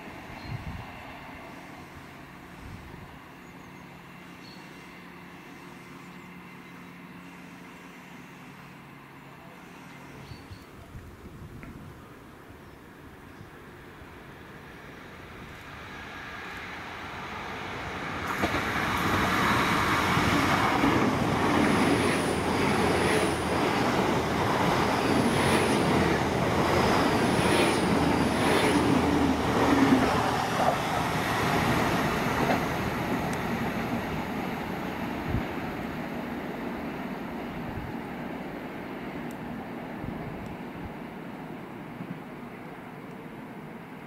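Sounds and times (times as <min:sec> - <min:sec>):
diesel train passing: 0:00.0 - 0:44.0.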